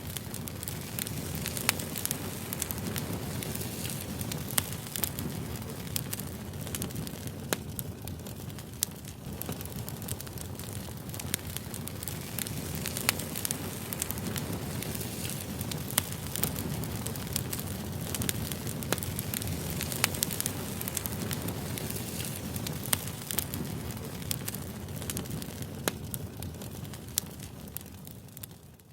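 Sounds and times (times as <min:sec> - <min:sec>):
burning wood crackling and popping: 0:00.0 - 0:28.9
low rush of flames: 0:00.0 - 0:28.9.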